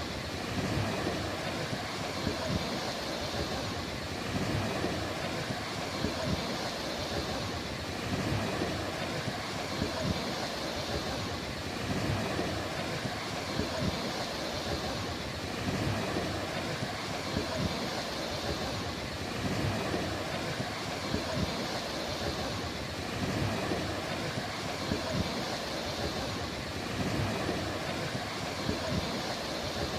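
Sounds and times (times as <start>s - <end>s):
ocean surf on beach: 0.0s - 29.9s.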